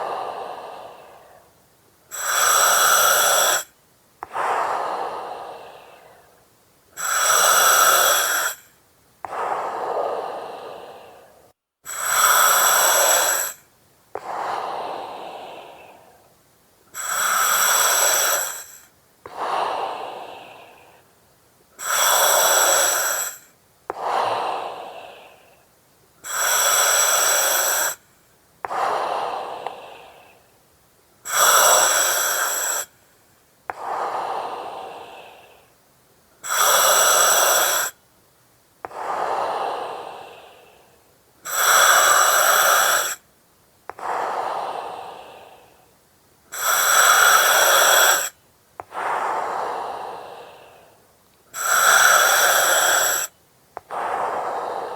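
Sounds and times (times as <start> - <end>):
breathing through oxygen mask: 0.0 - 6.4, 7.0 - 16.3, 16.9 - 21.1, 21.8 - 25.6, 26.2 - 30.5, 31.2 - 33.0, 36.4 - 38.0, 38.9 - 43.2, 43.9 - 45.8, 46.5 - 54.9.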